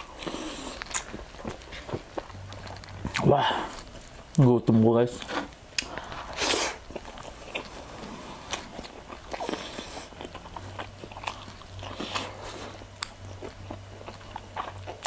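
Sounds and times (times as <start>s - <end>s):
chewing and biting food: 0.0s - 4.4s, 5.1s - 15.0s
faint low hum: 0.0s - 15.0s.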